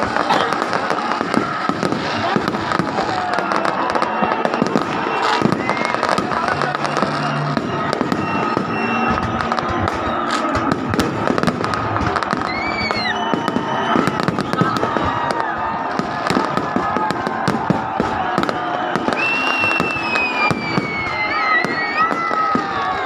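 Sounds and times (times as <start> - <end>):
firework whistles: 0.0 - 23.0
fireworks bangs and crackles: 0.0 - 23.0.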